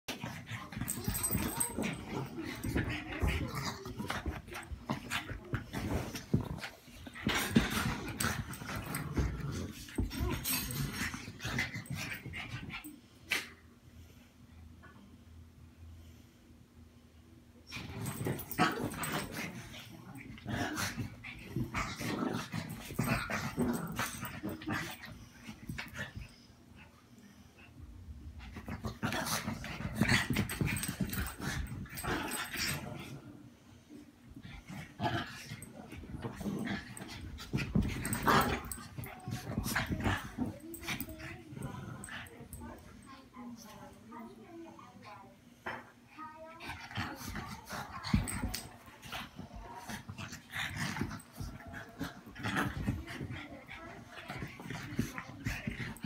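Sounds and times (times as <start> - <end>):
dogs play-fighting: 0.1 - 14.9, 17.5 - 56.0.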